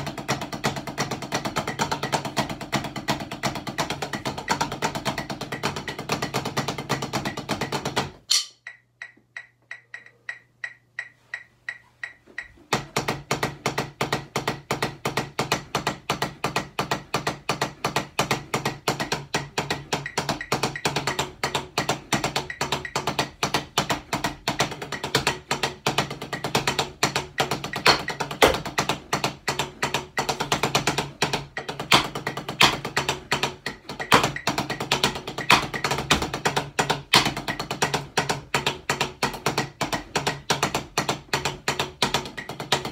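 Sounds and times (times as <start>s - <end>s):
drumsticks tapping practice pads: 0.0s - 42.9s.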